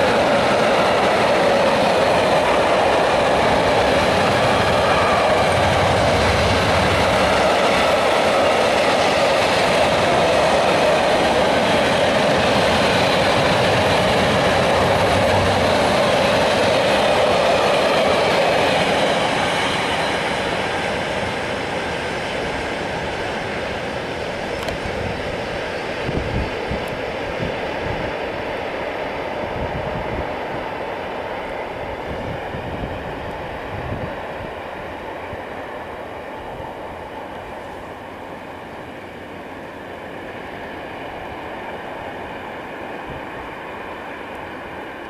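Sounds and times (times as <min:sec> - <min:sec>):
train wheels on rails: 0:00.0 - 0:45.0.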